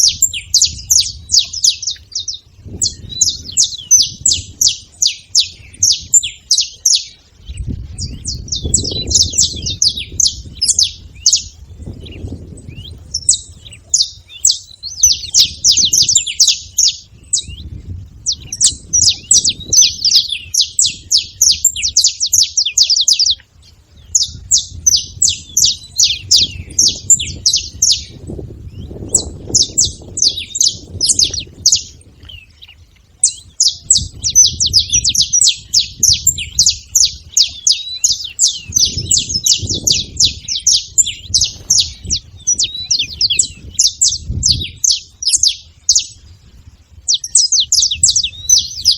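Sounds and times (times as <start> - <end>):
finch chirping: 0.0 - 48.9.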